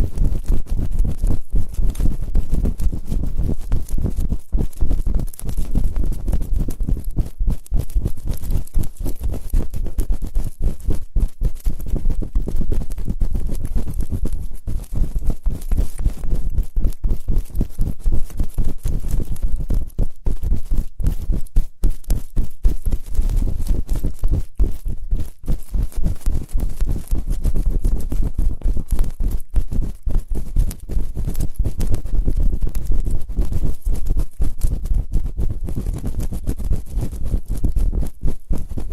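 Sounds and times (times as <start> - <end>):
scratching and rubbing on a microphone: 0.0 - 38.9.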